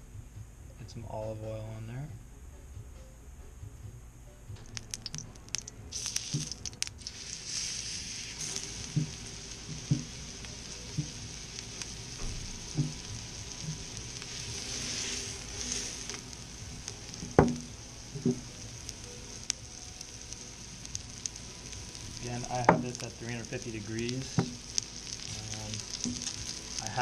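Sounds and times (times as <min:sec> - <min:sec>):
fish sizzling on a griddle: 0:04.8 - 0:27.0.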